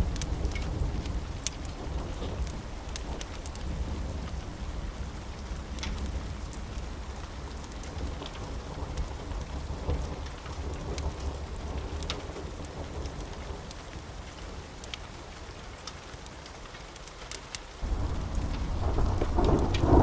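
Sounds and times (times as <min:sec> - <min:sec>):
rolling thunder rumble: 0:00.0 - 0:14.5, 0:17.8 - 0:20.0
steady rain: 0:00.0 - 0:20.0.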